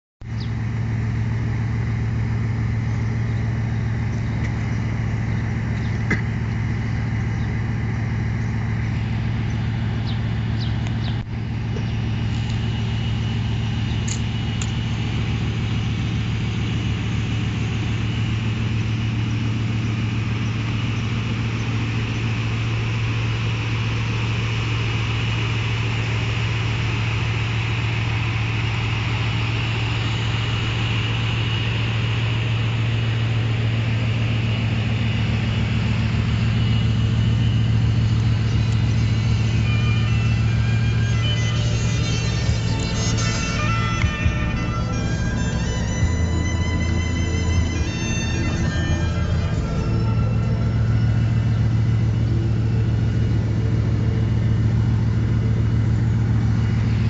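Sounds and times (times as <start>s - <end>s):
car engine idling: 0.2s - 57.0s.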